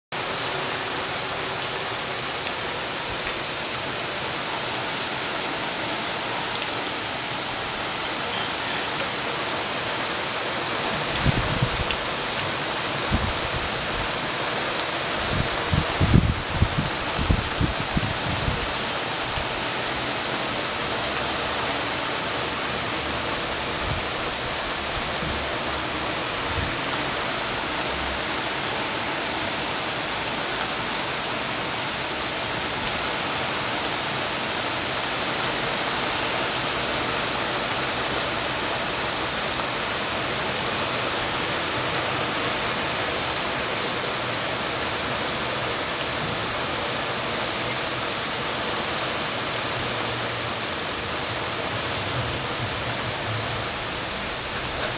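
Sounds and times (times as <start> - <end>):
heavy rain on tiled roofs: 0.1 - 54.9.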